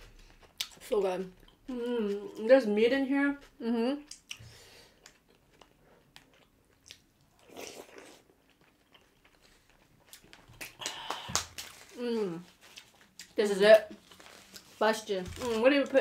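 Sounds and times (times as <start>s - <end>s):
chewing: 0.2s - 2.5s, 3.3s - 14.8s.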